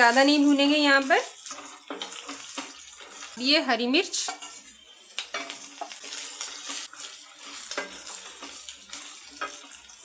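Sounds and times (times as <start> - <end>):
food sizzling in oil: 0.0 - 10.0
wooden spatula scraping a wok: 0.0 - 10.0.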